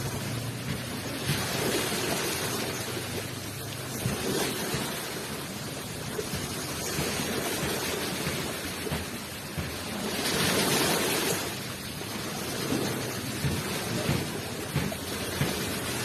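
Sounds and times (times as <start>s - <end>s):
ocean surf washing ashore: 0.0s - 16.0s.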